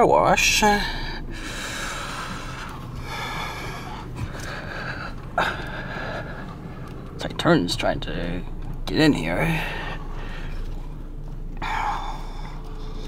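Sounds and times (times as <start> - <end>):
car engine hum: 0.0 - 13.0
hissing road rush: 0.5 - 13.0.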